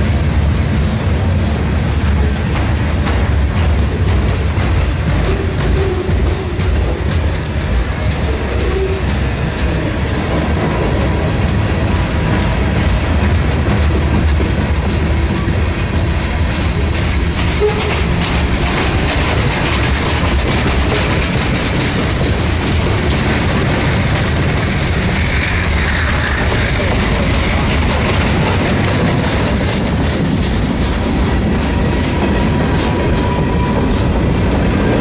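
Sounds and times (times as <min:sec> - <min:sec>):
train wheels rumbling on rails: 0:00.0 - 0:35.0
wheels clacking over rail joints: 0:00.0 - 0:35.0.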